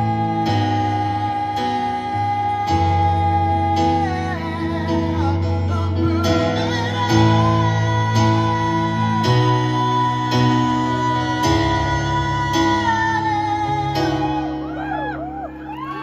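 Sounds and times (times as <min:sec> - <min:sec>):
person singing wordlessly: 0:00.0 - 0:14.6
keyboard chords: 0:00.0 - 0:16.0.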